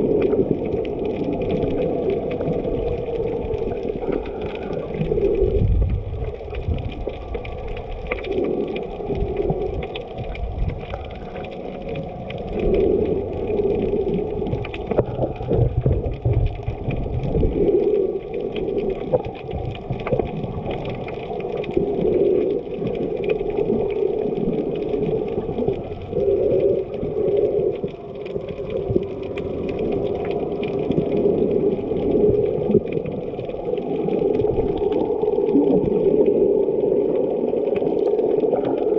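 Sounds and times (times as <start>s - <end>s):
muffled seawater sloshing: 0.0s - 38.9s.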